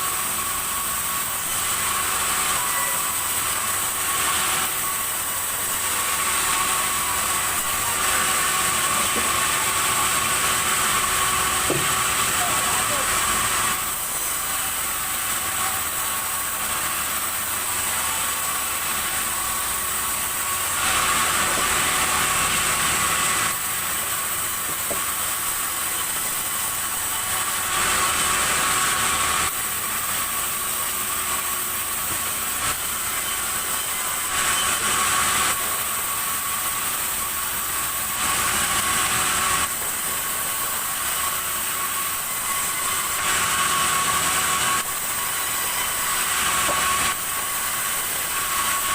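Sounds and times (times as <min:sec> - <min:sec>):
sawmill saw whining: 0:00.0 - 0:48.9.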